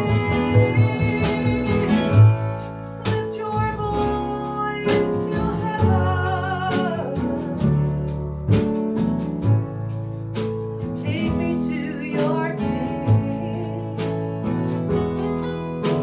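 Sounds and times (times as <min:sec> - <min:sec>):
guitar: 0:00.0 - 0:16.0
live band playing: 0:00.0 - 0:16.0.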